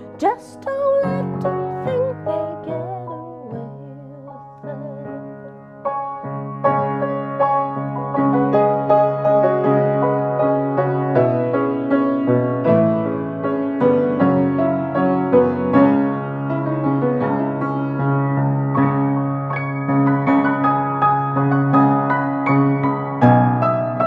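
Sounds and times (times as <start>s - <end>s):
piano playing chords and melody: 0.0s - 24.0s.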